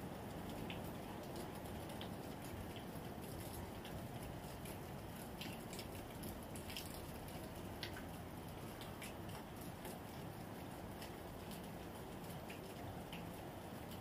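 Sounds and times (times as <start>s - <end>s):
water drips and splashes: 0.0s - 14.0s.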